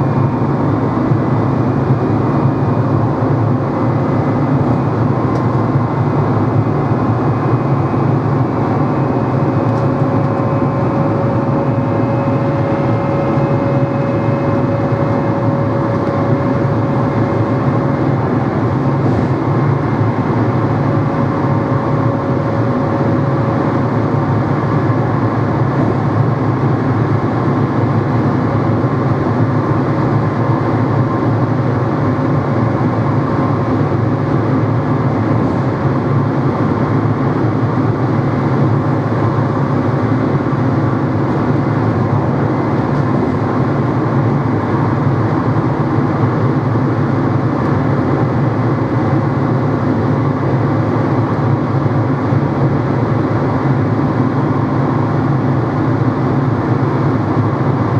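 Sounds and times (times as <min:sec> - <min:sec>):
train motor humming with whine: 0:00.0 - 0:57.9.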